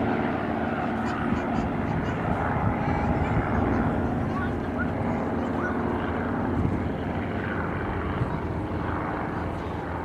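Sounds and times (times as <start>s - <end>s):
aircraft engines humming: 0.0s - 10.0s.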